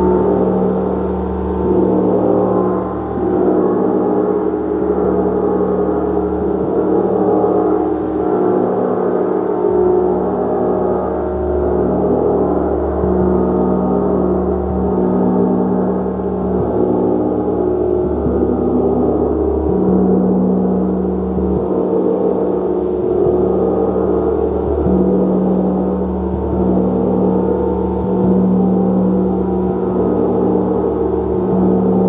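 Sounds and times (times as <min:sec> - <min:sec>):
gong played with soft strokes: 0:00.0 - 0:32.0.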